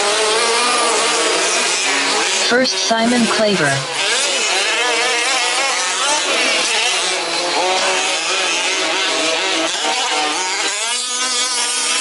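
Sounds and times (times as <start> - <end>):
rc car engines revving: 0.0 - 12.0.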